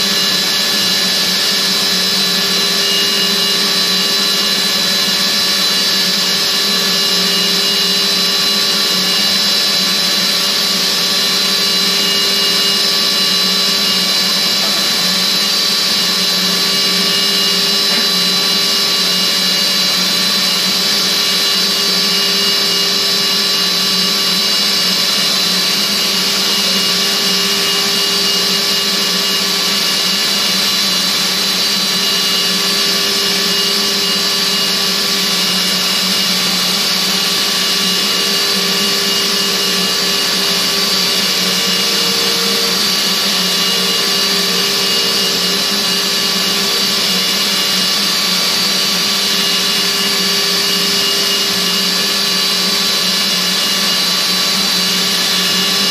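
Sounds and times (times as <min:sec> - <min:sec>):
machining spindle whine: 0:00.0 - 0:55.9.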